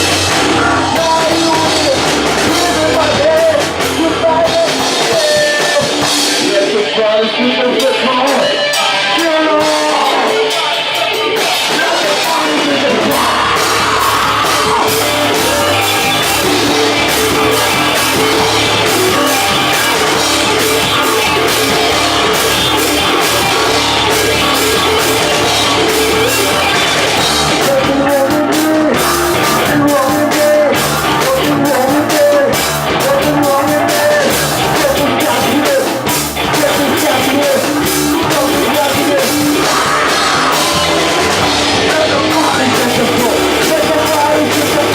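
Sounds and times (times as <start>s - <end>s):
amplified guitars: 0.0s - 44.9s
drums: 0.0s - 44.9s
person singing: 0.0s - 44.9s.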